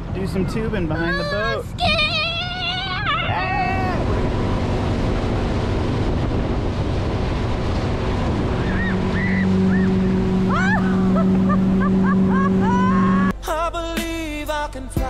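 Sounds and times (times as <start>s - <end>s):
churning boat wake: 0.0s - 13.3s
motorboat engine: 0.0s - 13.3s
wind on microphone: 0.0s - 13.3s.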